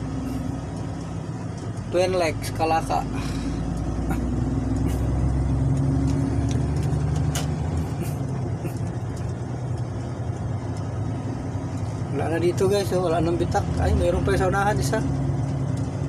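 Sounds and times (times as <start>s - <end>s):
road noise: 0.0s - 16.0s
truck diesel engine drone: 0.0s - 16.0s.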